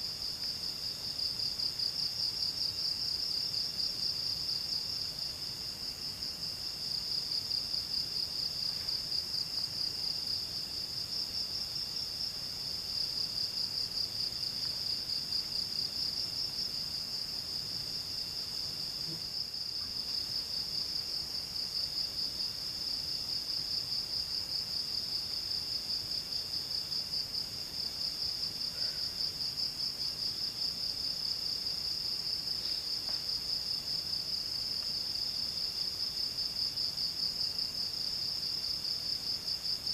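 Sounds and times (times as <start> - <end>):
faint low insect trill: 0.0 - 39.9.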